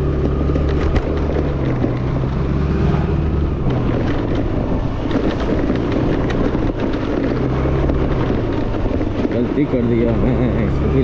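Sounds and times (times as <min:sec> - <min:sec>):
scooter engine running: 0:00.0 - 0:11.0
wind buffeting microphone: 0:00.0 - 0:11.0.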